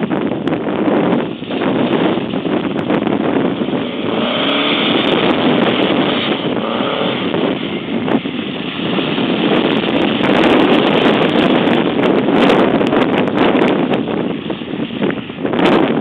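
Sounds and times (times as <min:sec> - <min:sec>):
wind buffeting microphone: 0:00.0 - 0:16.0
car engine revving: 0:01.3 - 0:14.7.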